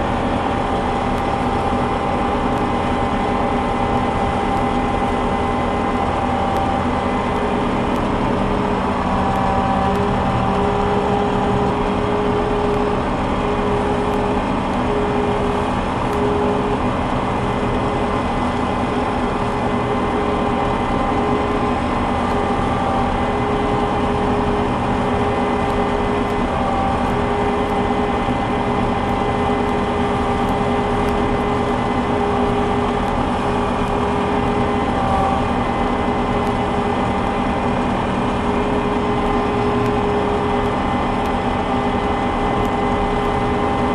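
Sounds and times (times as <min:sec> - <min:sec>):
combine harvester running: 0:00.0 - 0:43.9
machine whining tones: 0:00.0 - 0:43.9.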